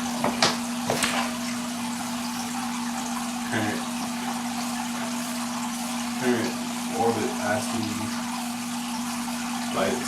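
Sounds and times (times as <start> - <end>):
trickling water: 0.0 - 10.0.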